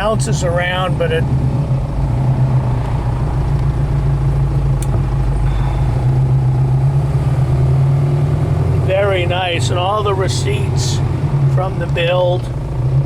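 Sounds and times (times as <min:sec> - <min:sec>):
car engine cruising: 0:00.0 - 0:13.0.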